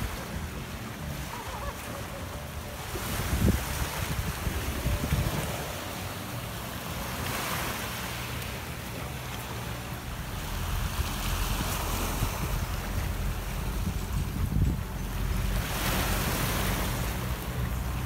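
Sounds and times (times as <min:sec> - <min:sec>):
surf washing onto beach: 0:00.0 - 0:18.0
wind rumbling on microphone: 0:00.0 - 0:18.0.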